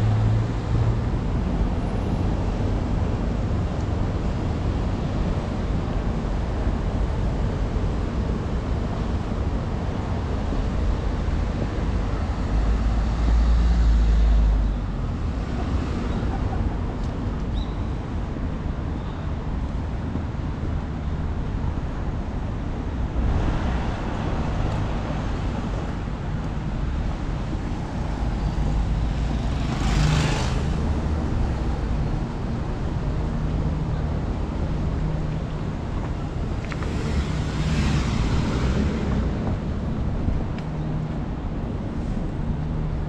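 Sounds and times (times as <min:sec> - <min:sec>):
low rumble of traffic: 0:00.0 - 0:43.0.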